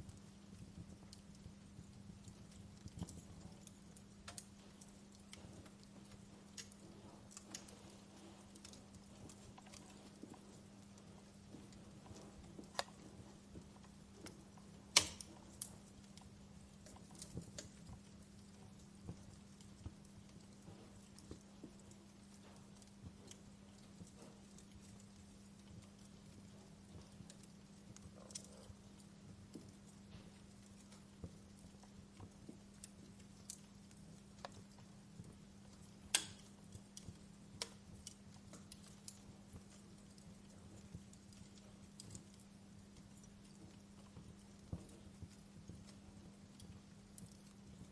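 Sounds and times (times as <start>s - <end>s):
faint steady hum: 0.0s - 47.9s
wood fire crackling: 0.0s - 47.9s.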